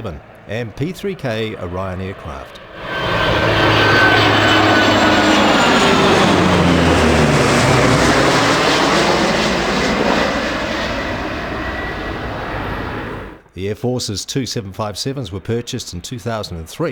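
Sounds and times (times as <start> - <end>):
low flypast of aircraft engines: 0.0 - 13.5, 14.3 - 16.9.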